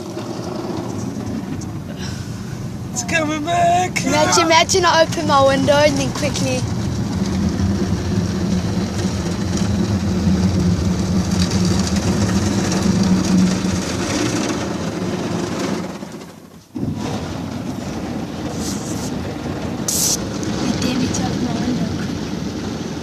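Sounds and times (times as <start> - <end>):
car wash machinery rumbling: 0.0 - 23.0.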